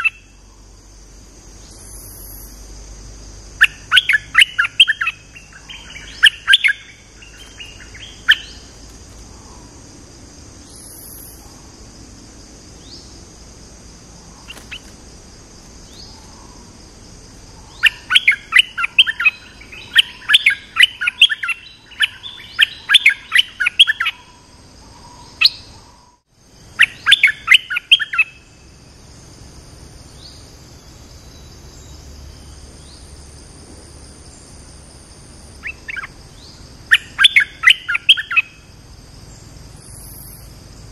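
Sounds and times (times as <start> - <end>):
steady high hiss: 0.0 - 40.9.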